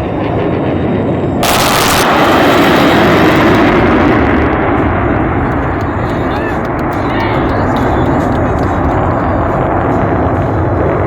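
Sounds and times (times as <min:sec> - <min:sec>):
jet roar flying past: 0:00.0 - 0:11.0.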